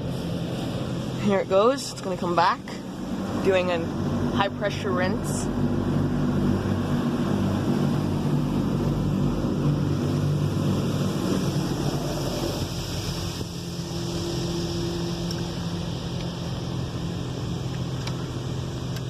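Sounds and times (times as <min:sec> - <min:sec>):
low hum: 0:00.0 - 0:19.0
water jets spraying on vehicle: 0:00.0 - 0:19.0.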